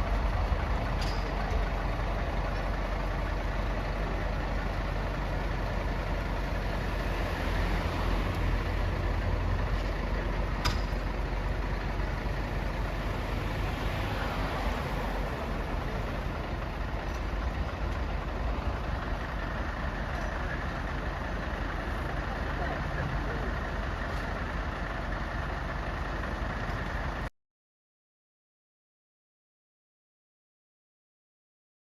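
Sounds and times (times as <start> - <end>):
engine idling: 0.0 - 27.3.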